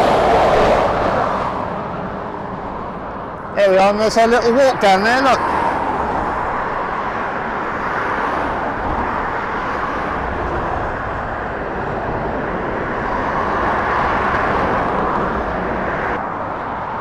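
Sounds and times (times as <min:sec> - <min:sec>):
continuous traffic rushing: 0:00.0 - 0:17.0.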